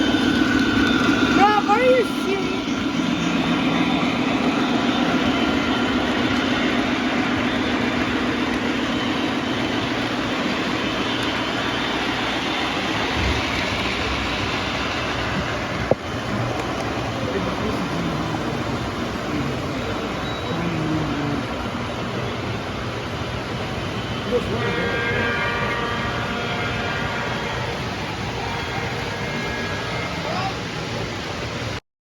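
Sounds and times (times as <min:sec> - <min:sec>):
model train running on track: 0:00.0 - 0:31.8.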